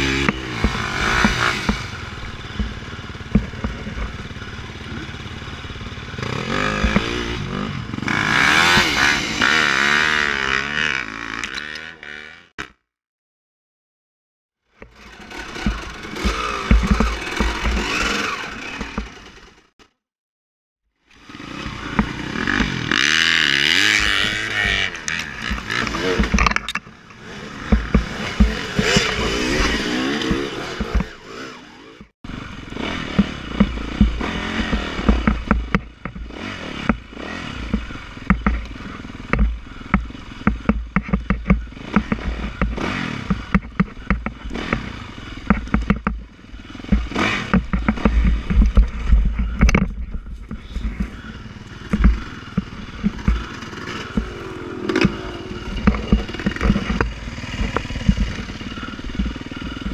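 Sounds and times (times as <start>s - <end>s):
dirt bike engine revving: 0.0s - 12.7s, 14.7s - 19.9s, 21.1s - 59.9s
knocks and clatter over rough ground: 0.0s - 12.8s, 14.7s - 19.9s, 21.1s - 59.9s.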